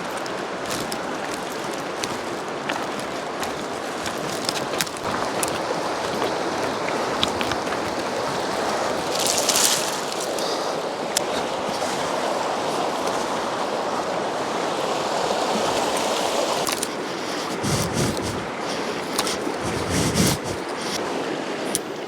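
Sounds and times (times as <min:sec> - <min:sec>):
river rushing: 0:00.0 - 0:19.8.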